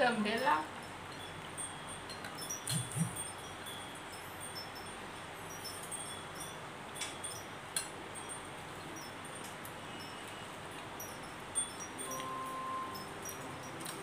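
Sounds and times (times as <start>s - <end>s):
faint steady hiss: 0.0s - 14.0s
wind chimes tinkling: 0.0s - 14.0s.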